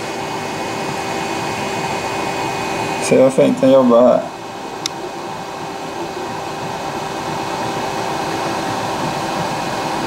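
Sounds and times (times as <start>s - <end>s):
faint humming tones: 0.0s - 10.0s
three d printer fan whir: 0.0s - 10.0s.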